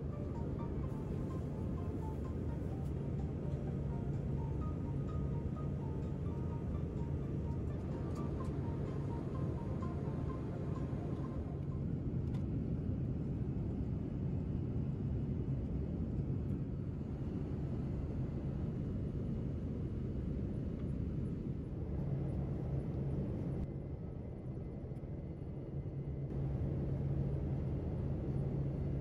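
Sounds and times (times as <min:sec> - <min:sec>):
airliner cabin rumble: 0:00.0 - 0:23.7.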